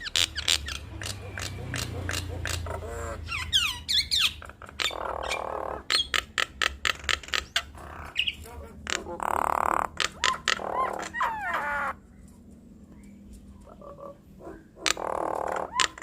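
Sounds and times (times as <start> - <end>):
birds clicking and squawking: 0.0 - 16.0
harsh rasping bird calls: 0.0 - 16.0.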